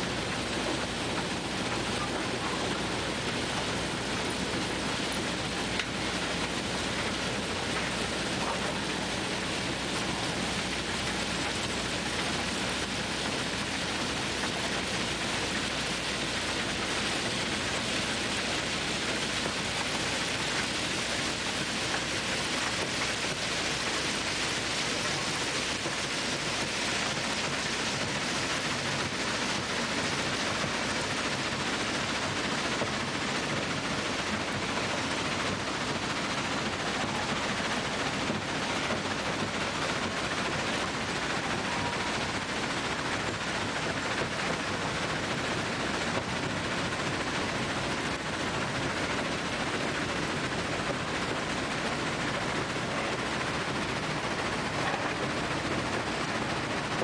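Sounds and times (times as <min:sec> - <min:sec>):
running machinery: 0:00.0 - 0:57.0.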